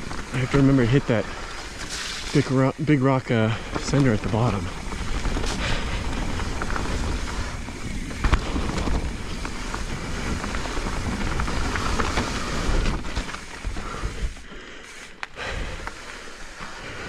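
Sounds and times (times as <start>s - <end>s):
bike knocking over rough ground: 0.0s - 16.1s
bike tyres rolling on trail: 0.0s - 17.0s.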